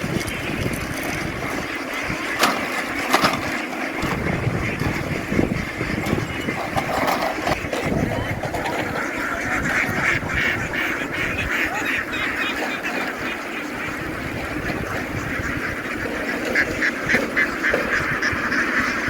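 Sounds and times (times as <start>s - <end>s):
flock of ducks quacking: 0.0s - 19.0s.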